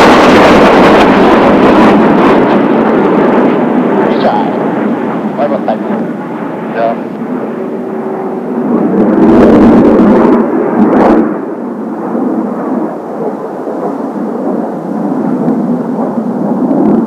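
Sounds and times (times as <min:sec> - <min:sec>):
distant jet engines roaring: 0:00.0 - 0:17.0.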